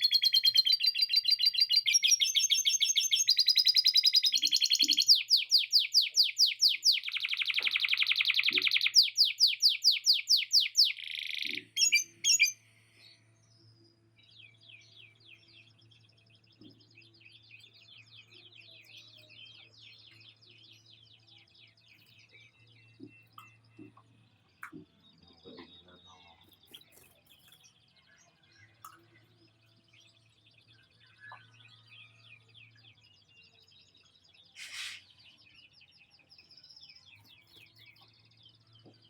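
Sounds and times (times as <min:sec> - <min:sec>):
canary singing trills: 0:00.0 - 0:39.0
faint bird twittering: 0:00.0 - 0:39.0.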